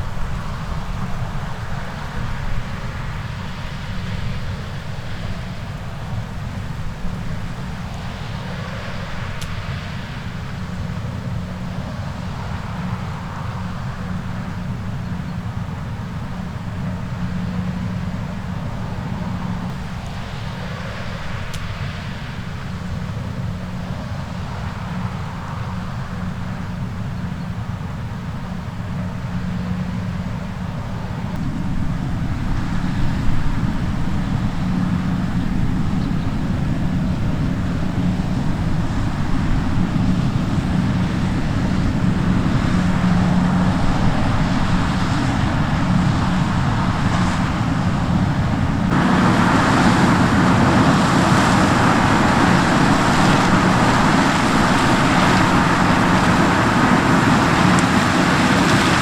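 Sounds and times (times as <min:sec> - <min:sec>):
diesel farm machinery engine running: 0:00.0 - 0:59.0.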